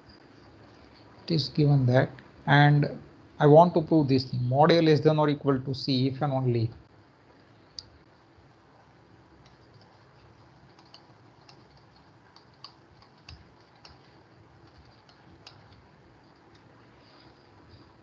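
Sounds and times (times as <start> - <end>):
low hiss: 0.0 - 18.0.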